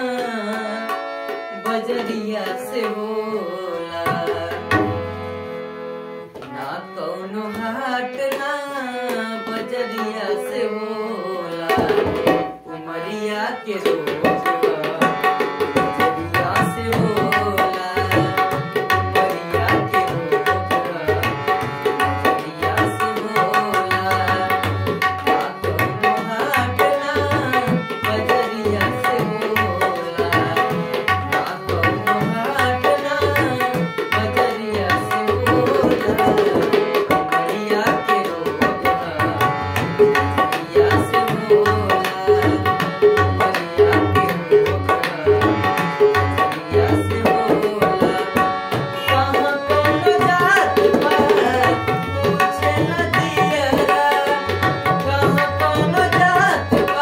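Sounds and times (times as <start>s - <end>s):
harmonium melody: 0.0s - 57.0s
tabla rhythm: 0.0s - 57.0s.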